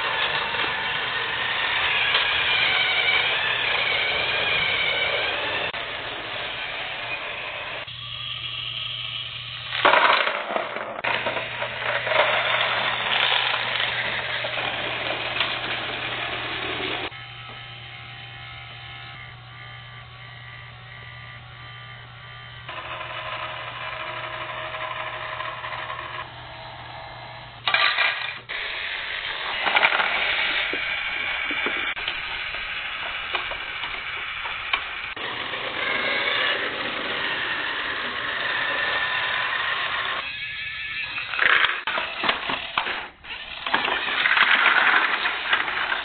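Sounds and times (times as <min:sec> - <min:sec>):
toy motors whirring: 0:00.0 - 0:46.0.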